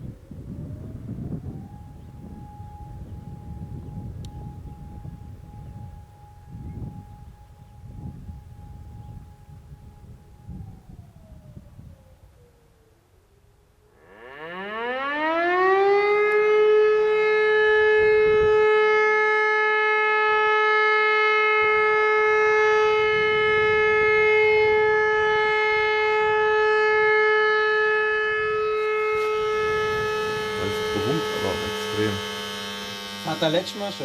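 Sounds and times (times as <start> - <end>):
electromechanical siren howling: 0.0 - 34.0.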